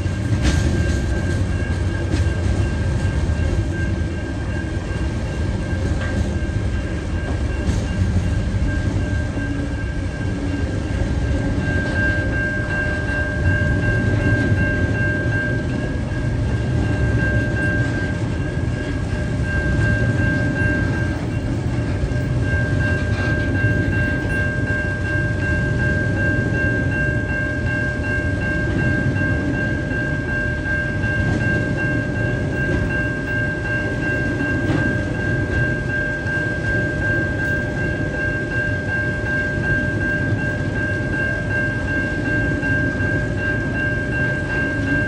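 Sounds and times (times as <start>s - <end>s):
freight train rumbling past: 0.0s - 45.0s
wheels clicking on rails: 0.0s - 45.0s.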